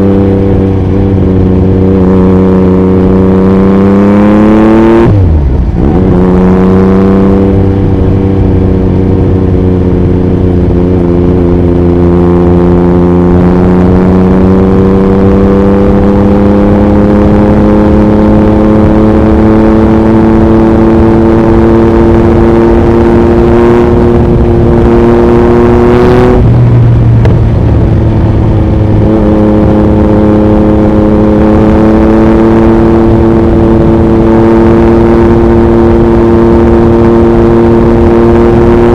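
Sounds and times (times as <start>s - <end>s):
motorcycle engine at highway speed: 0.0s - 38.9s
wind noise on microphone: 0.0s - 38.9s.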